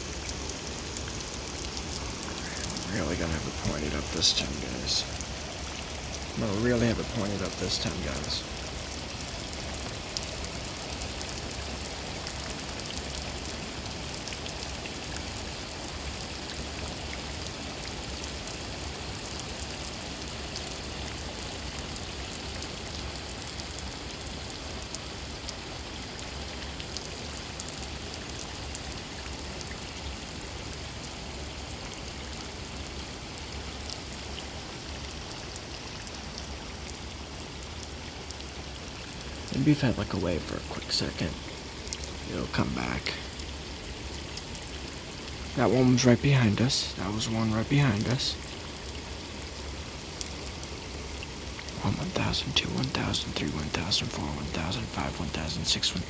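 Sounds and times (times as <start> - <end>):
raindrop ticks: 0.0 - 56.0
steady rain hiss: 0.0 - 56.0.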